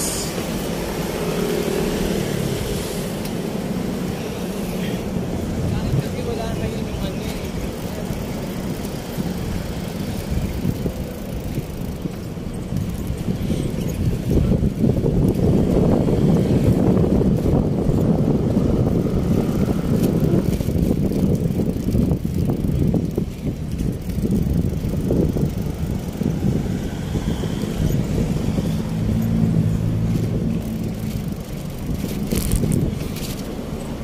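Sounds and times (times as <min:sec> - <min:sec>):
bicycle tyre and road noise: 0:00.0 - 0:34.0
wind rumbling on microphone: 0:00.0 - 0:34.0.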